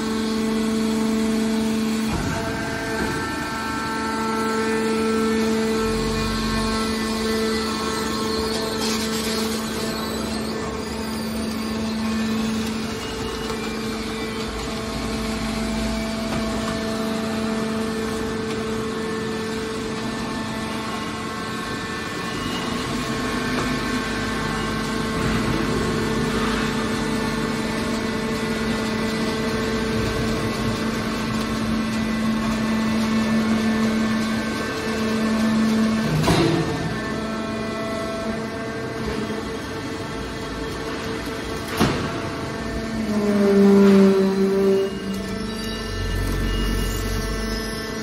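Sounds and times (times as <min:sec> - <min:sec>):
hydraulic machine hum: 0:00.0 - 0:48.0.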